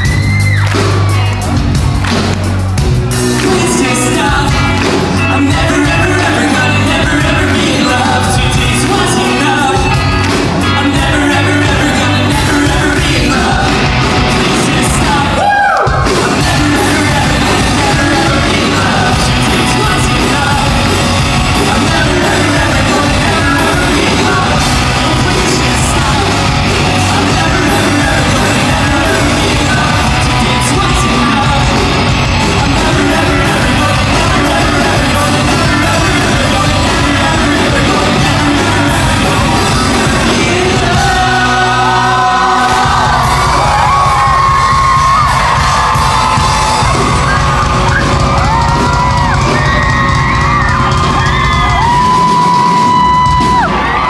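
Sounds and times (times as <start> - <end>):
bass guitar: 0.0 - 54.0
drums: 0.0 - 54.0
electric guitar: 0.0 - 54.0
person singing: 3.1 - 54.0.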